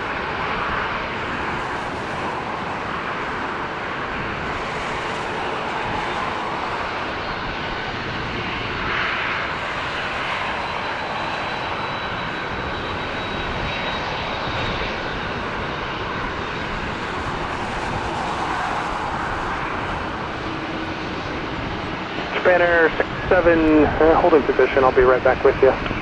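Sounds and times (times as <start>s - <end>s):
jet engines rushing with whine: 0.0s - 26.0s.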